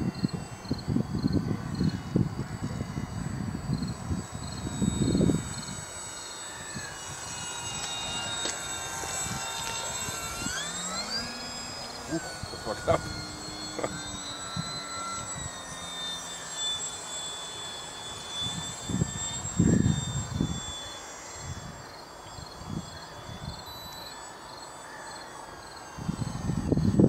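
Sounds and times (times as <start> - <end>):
model plane motor whine: 0.0 - 27.0.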